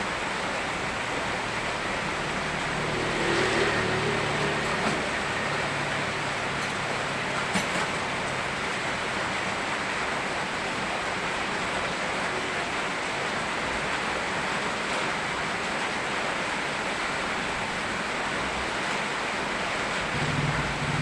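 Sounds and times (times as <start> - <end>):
river water rushing: 0.0 - 21.0
steady rain: 0.0 - 21.0.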